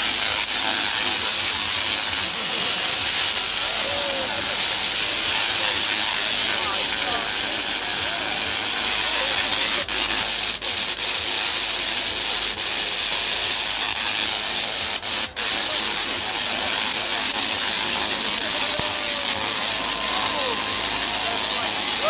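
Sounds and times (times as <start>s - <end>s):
tesla coil arcs crackling: 0.0s - 22.0s.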